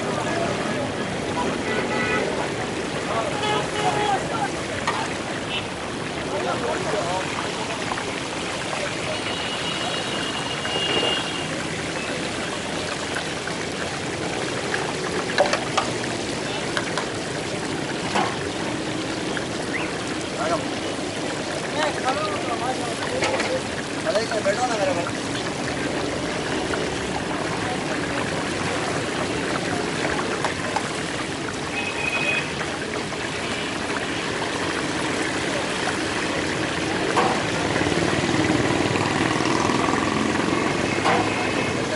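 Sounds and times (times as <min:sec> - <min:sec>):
fish sizzling in hot oil: 0:01.6 - 0:41.9.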